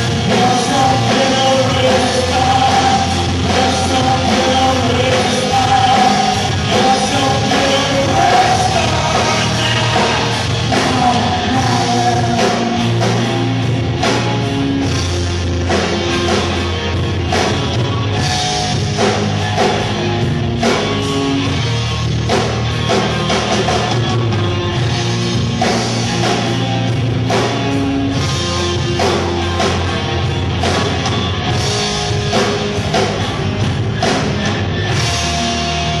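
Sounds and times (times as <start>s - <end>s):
distorted electric guitar: 0.0s - 36.0s
drum kit: 0.0s - 36.0s
low bass notes: 0.0s - 36.0s.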